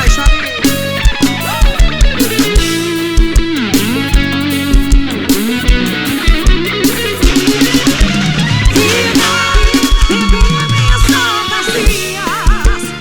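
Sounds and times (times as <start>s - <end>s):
bass guitar: 0.0s - 13.0s
electric guitar with bent notes: 0.0s - 13.0s
steady kick drum beat: 0.0s - 13.0s.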